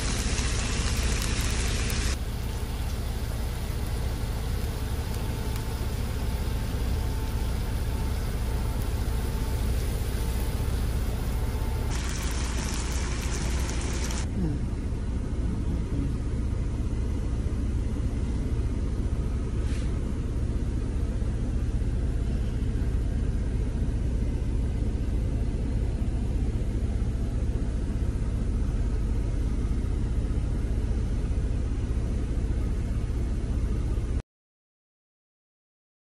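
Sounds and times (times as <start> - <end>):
steady low rumble: 0.0 - 34.2.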